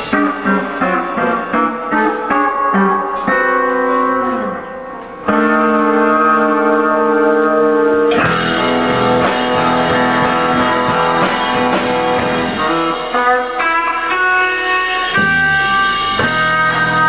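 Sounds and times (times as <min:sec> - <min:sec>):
instrumental band playing live: 0:00.0 - 0:17.0.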